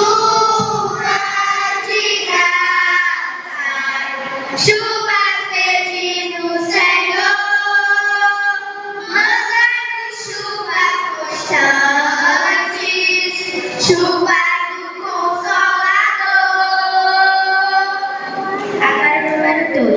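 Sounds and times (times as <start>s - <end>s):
children singing a hymn: 0.0s - 19.9s.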